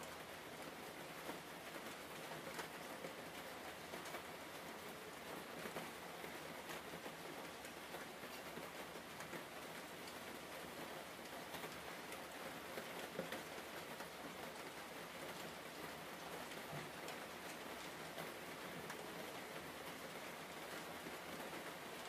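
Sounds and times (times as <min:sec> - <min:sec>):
soft rain-like hiss: 0:00.0 - 0:22.0.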